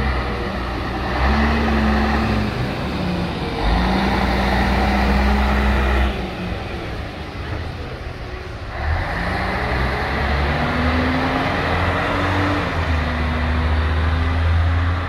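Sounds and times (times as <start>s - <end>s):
bus diesel engine accelerating: 0.0s - 15.0s
street traffic: 0.0s - 15.0s.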